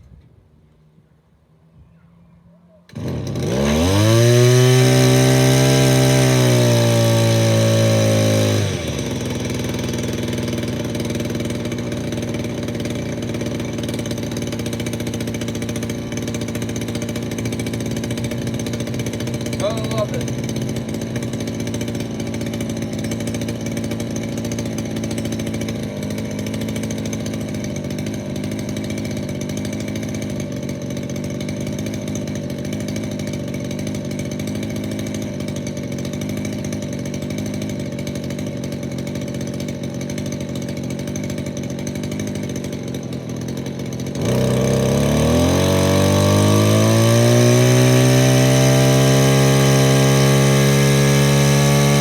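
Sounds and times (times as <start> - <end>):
string trimmer engine: 2.8 - 52.0.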